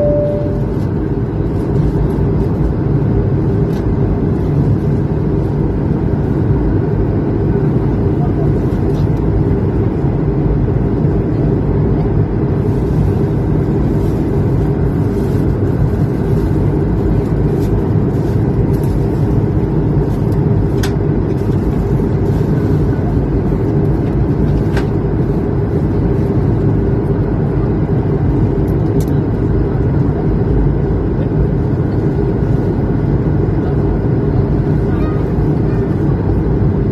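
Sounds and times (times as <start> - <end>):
airliner engine and airflow rumble: 0.0 - 36.9.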